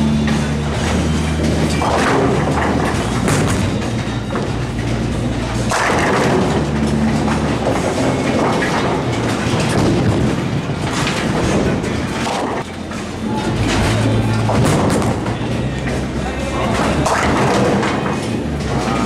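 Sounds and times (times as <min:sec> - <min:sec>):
bowling pins crashing: 0:00.0 - 0:19.0.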